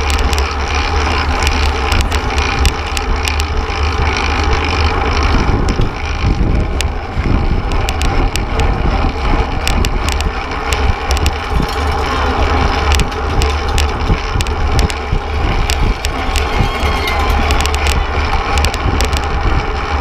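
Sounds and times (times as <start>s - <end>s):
sharp clicks and rattles: 0.0s - 20.0s
tyre and road noise: 0.0s - 20.0s
wind buffeting camera: 0.0s - 20.0s.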